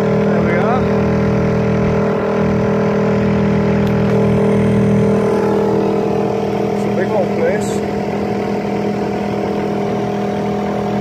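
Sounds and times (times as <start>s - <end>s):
outboard motor droning: 0.0s - 11.0s.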